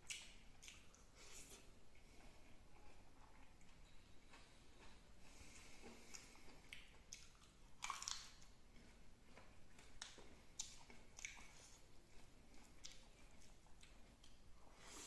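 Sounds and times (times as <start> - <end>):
faint chewing: 0.0 - 15.0.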